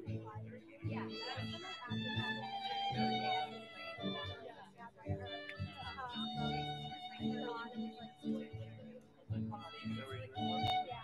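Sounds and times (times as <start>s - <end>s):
plucked guitar notes: 0.0s - 11.0s
violin melody: 0.0s - 11.0s.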